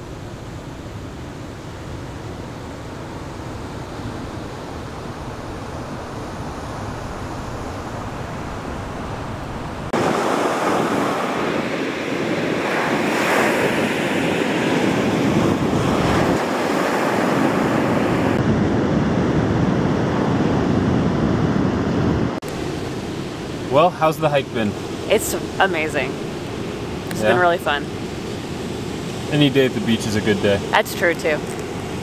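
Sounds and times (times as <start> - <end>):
ocean surf breaking: 0.0 - 32.0
wind on microphone: 0.0 - 32.0.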